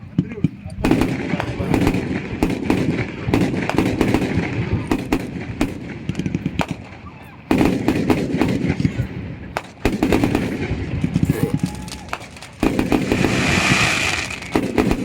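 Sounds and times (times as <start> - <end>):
firecrackers popping: 0.0 - 15.0
fireworks sharp bangs: 0.0 - 15.0.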